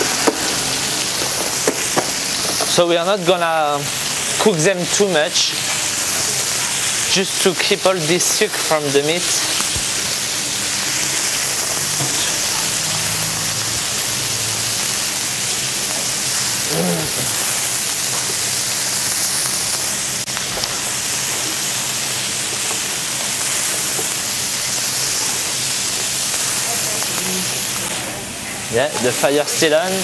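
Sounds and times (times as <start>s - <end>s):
peppers sizzling in oil: 0.0s - 30.0s.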